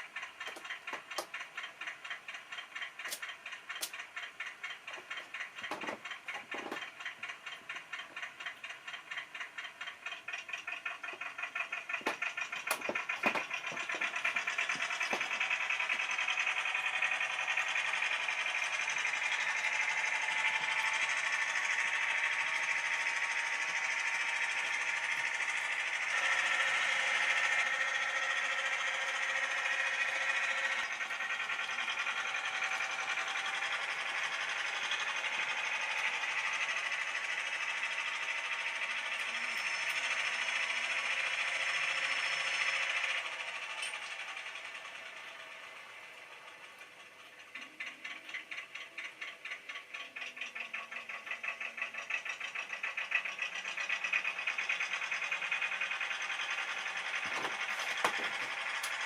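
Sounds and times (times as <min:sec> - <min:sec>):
model train wheel noise: 0:00.0 - 0:59.0
small electric motor whirring: 0:03.0 - 0:59.0.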